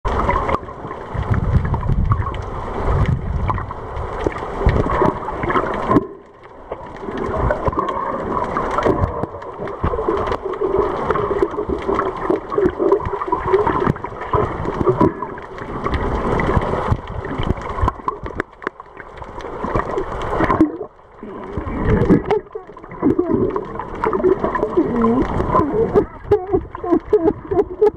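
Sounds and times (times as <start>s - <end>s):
water swishing and gurgling underwater: 0.0s - 27.9s.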